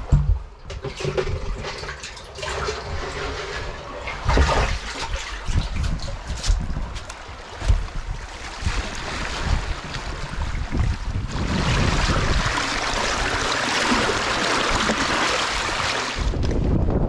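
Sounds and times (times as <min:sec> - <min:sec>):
sea water rushing and splashing: 0:01.8 - 0:16.5
wind buffeting microphone: 0:02.7 - 0:17.0.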